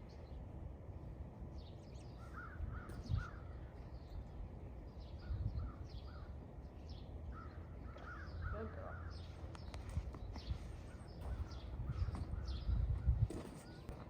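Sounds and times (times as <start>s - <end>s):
birds calling: 1.5s - 14.0s.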